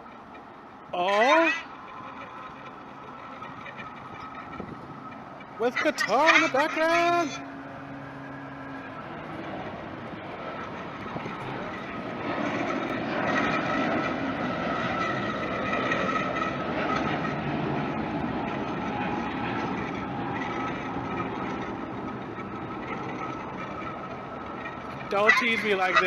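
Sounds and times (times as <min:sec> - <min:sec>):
vehicle noise with high whine: 0:00.0 - 0:26.0.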